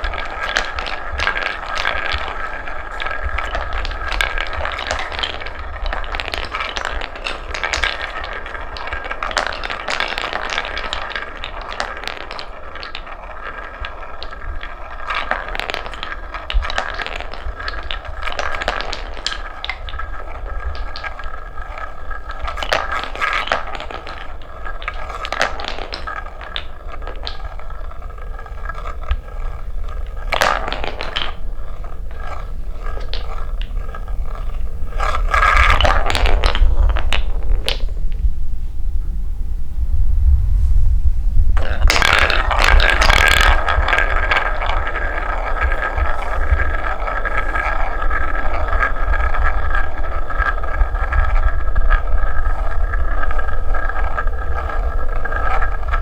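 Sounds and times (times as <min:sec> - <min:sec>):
wooden balls rolling on track: 0:00.0 - 0:39.2, 0:39.8 - 0:56.0
balls clicking and knocking: 0:00.0 - 0:56.0.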